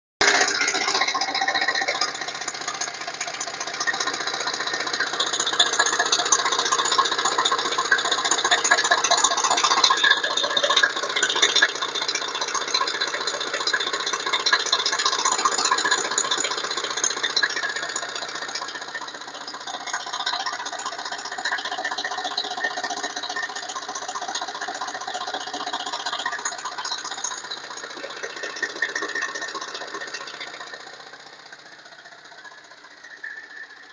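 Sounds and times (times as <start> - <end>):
diesel engine rattling: 0.2 - 33.9.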